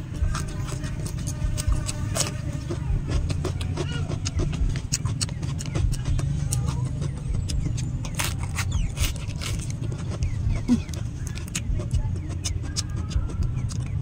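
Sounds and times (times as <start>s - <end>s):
lettuce leaves crackling: 0.0s - 14.0s
mouth noises of eating: 0.0s - 14.0s
steady low rumble: 0.0s - 14.0s.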